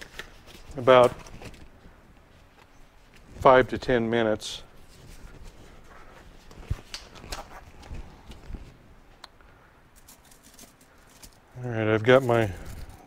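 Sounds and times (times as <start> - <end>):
rubber gloves rustling: 0.0 - 13.0.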